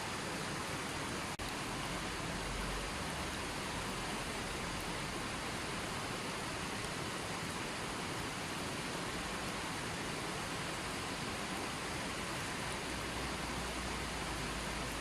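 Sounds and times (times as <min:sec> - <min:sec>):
running water: 0:00.0 - 0:15.0.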